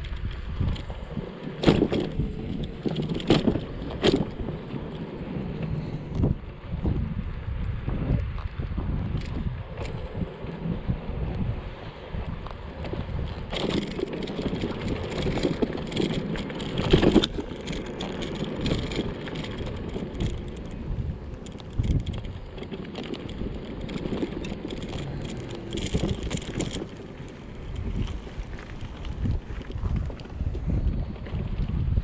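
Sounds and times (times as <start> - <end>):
electric scooter rolling on concrete: 0.0 - 32.0
scooter jolt: 0.0 - 32.0
wind on microphone: 0.0 - 32.0.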